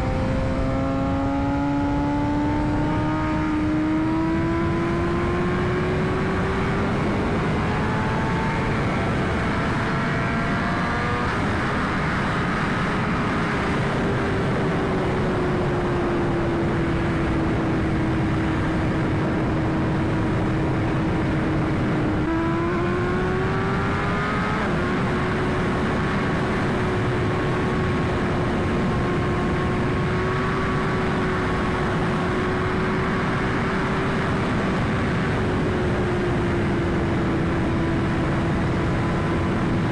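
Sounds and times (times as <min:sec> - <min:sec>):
motorcycle engine: 0:00.0 - 0:39.9
wind rush on microphone: 0:00.0 - 0:39.9.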